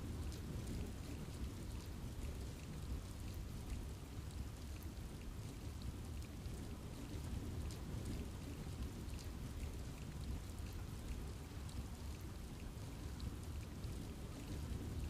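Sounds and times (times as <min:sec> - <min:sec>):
rain patter in a forest: 0:00.0 - 0:15.0
raindrops ticking on leaves: 0:00.0 - 0:15.0.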